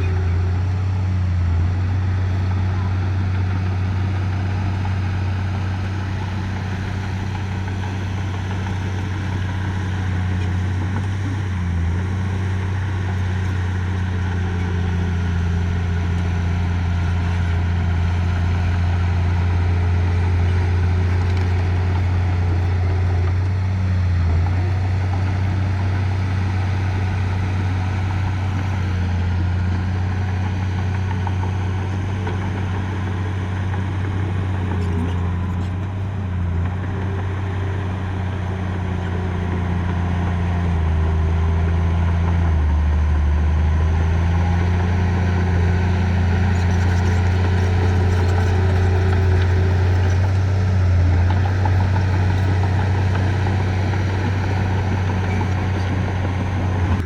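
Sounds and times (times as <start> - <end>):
construction machine engine humming: 0.0 - 57.0.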